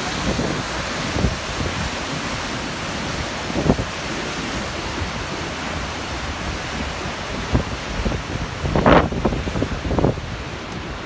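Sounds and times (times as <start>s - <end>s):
waterfall roaring: 0.0s - 11.0s
wind buffeting microphone: 0.0s - 11.0s.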